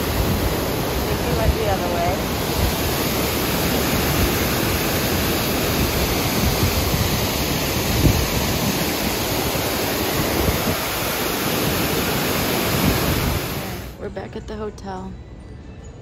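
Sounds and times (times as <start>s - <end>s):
steady rushing noise: 0.0s - 14.1s.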